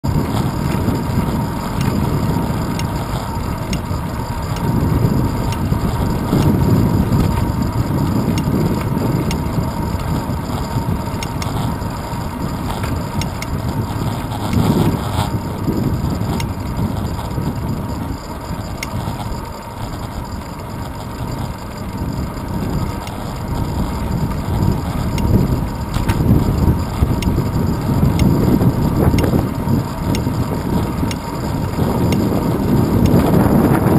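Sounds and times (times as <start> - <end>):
bicycle tyres rumbling on road: 0.0 - 33.9
faint steady high tone: 0.0 - 33.9
wind buffeting microphone: 0.0 - 33.9.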